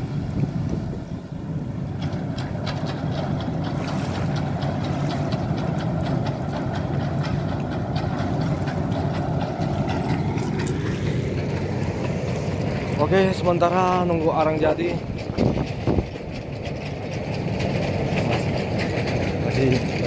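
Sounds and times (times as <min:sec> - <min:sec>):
diesel engine running: 0:00.0 - 0:20.0
light rapid clatter: 0:01.9 - 0:20.0.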